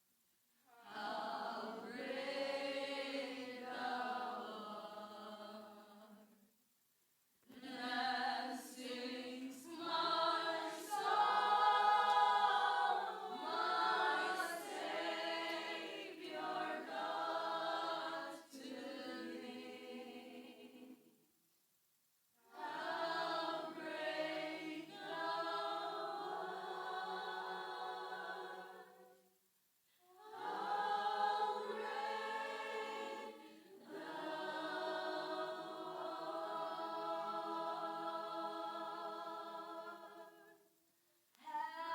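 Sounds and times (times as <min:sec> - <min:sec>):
group singing worship song: 0:00.7 - 0:06.4, 0:07.5 - 0:21.1, 0:22.4 - 0:29.3, 0:29.9 - 0:40.7, 0:41.3 - 0:41.9.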